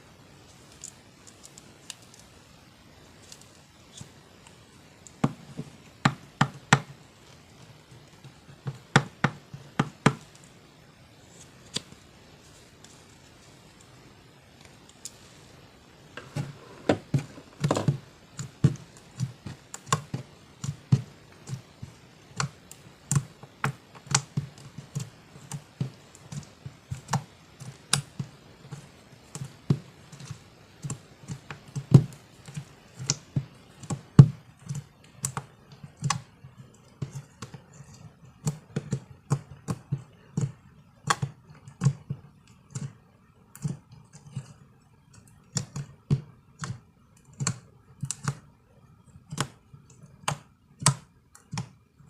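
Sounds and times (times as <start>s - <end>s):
slime kneaded sticky pops: 0.6s - 13.0s, 16.1s - 52.0s.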